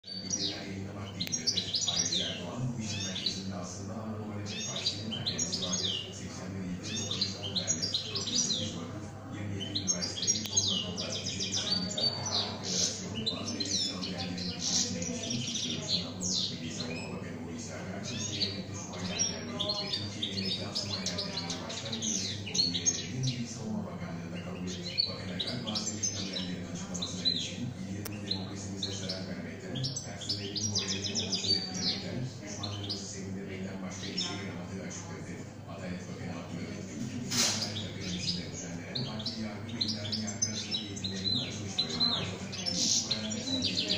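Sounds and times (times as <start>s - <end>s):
goldfinch singing: 0.0s - 9.0s, 9.6s - 23.5s, 24.3s - 34.6s, 37.3s - 43.9s.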